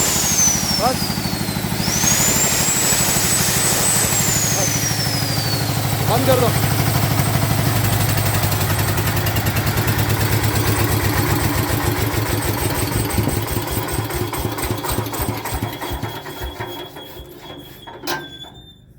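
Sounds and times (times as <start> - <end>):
diesel generator shutting down: 0.0 - 18.7.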